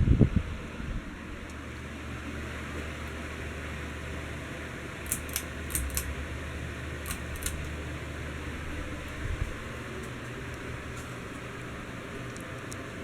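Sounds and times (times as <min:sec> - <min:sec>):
ceiling fan running: 0:00.0 - 0:13.0.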